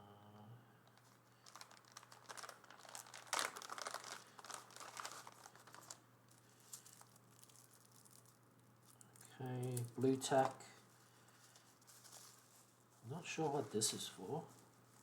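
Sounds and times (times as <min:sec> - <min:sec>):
plastic packaging crinkling: 0:00.8 - 0:15.0.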